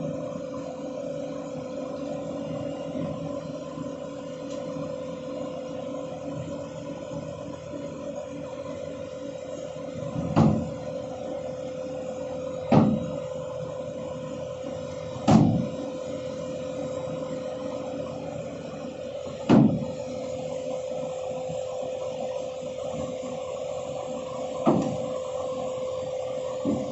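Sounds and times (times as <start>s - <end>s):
excavator humming: 0.0s - 26.9s.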